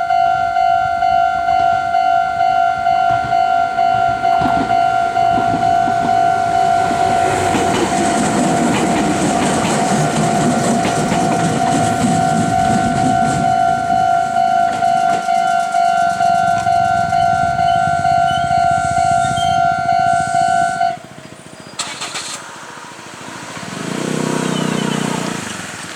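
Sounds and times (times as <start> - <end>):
level crossing alarm ringing: 0.0 - 21.3
train wheels rumbling and clattering: 0.8 - 24.2.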